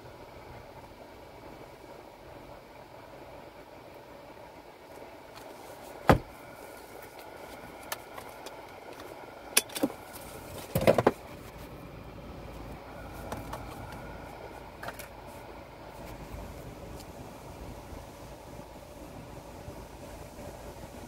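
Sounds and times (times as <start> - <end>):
low hum inside car cabin: 0.0 - 21.0.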